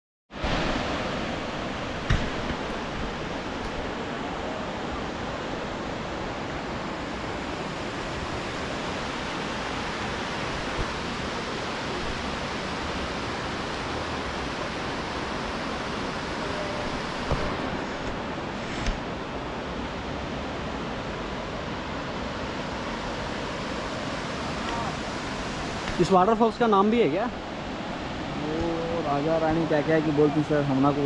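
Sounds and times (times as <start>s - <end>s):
waterfall roaring: 0.4s - 31.0s.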